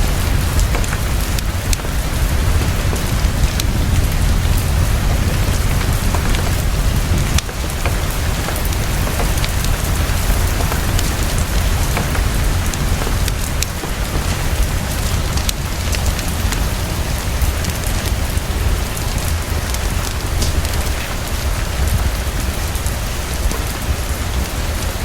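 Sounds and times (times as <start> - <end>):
fireplace crackles: 0.0 - 25.0
heavy rain: 0.0 - 25.0.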